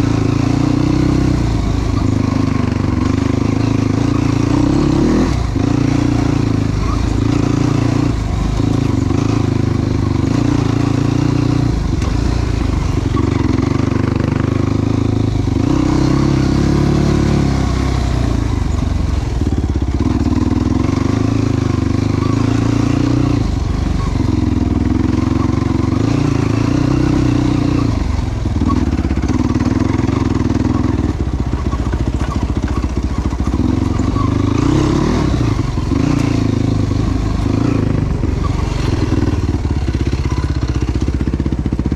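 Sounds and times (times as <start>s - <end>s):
atv engine running under load: 0.0s - 41.9s.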